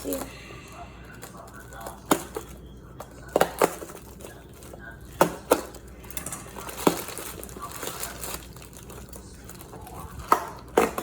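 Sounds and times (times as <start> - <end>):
wrapping crinkling and rustling: 0.0 - 11.0.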